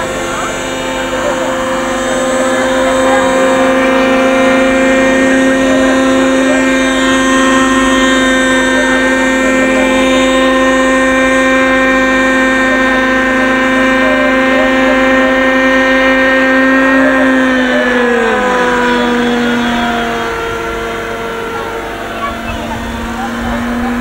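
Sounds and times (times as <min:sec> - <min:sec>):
model helicopter engine whine: 0:00.0 - 0:24.0.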